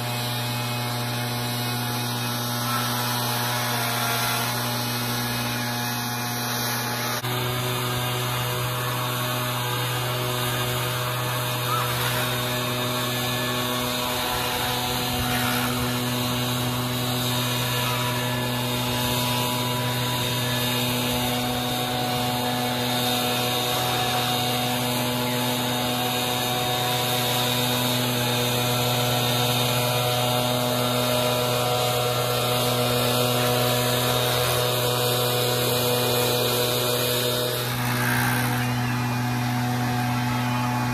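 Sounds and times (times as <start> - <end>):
leaf blower engine running: 0.0 - 40.9.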